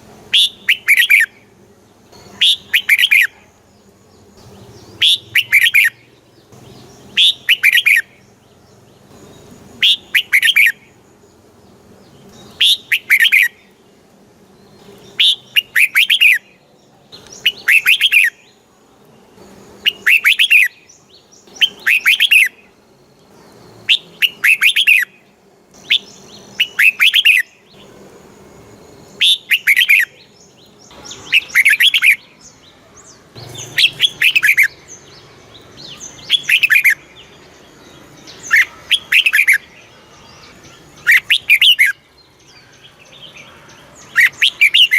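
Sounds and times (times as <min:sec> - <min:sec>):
bird singing bright phrases: 0:00.2 - 0:44.9.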